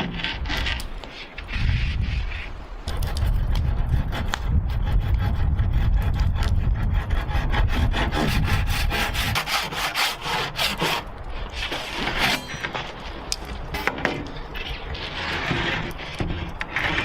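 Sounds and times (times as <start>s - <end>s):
hand saw cutting wood: 0.0s - 13.0s, 13.8s - 17.0s.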